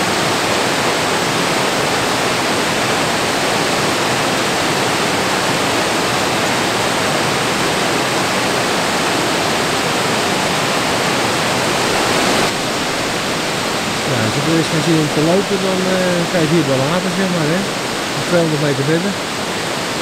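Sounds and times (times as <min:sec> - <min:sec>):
waterfall pouring over rock: 0:00.0 - 0:20.0.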